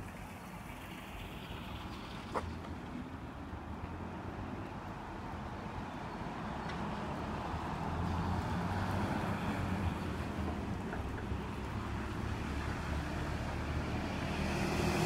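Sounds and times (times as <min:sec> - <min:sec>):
traffic on wet roads: 0:00.0 - 0:15.0.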